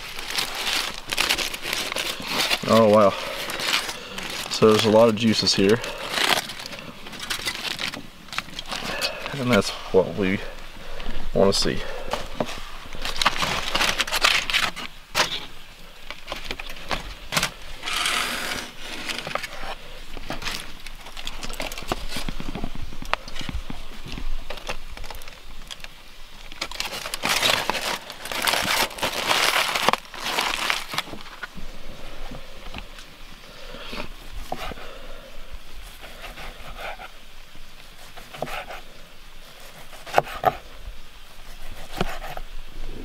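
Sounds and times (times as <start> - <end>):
aluminium foil crinkling: 0.0 - 11.1, 11.8 - 35.0, 35.7 - 43.0.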